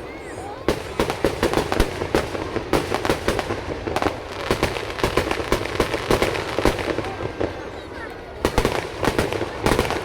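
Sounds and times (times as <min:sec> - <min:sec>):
fireworks crackling: 0:00.0 - 0:10.0
fireworks bangs: 0:00.3 - 0:10.0.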